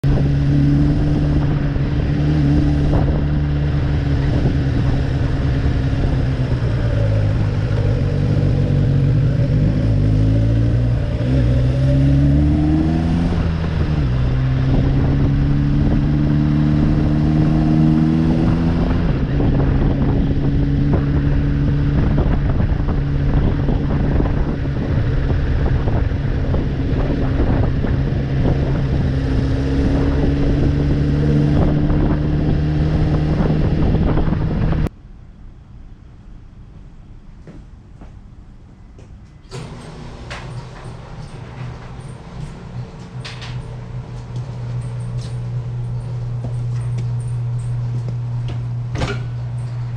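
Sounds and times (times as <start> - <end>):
motorcycle engine accelerating: 0.0 - 34.9, 43.3 - 49.9.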